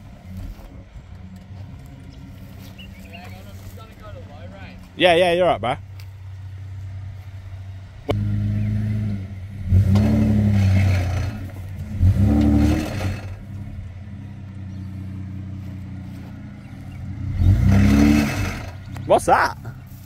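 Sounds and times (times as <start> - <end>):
engine revving: 0.0 - 20.0
engine running under load: 0.0 - 20.0.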